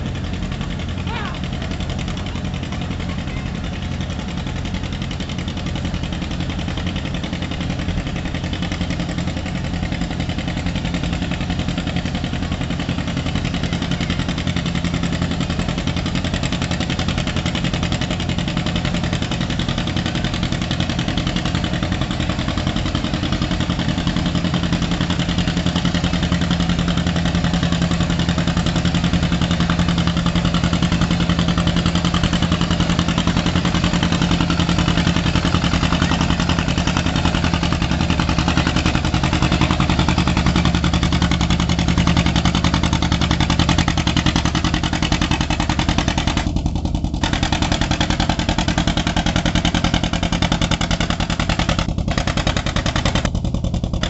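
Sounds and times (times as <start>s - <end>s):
exhaust beating steadily: 0.0s - 54.0s
tractor engine pulling under load: 0.0s - 54.0s.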